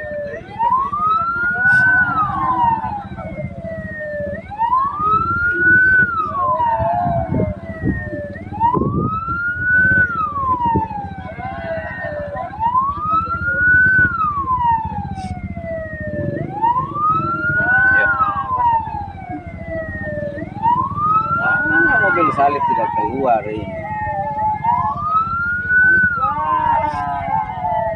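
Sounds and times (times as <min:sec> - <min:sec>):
second siren tone: 0:00.0 - 0:27.9
siren wailing: 0:00.0 - 0:27.9
vehicle engine and road rumble: 0:00.0 - 0:27.9.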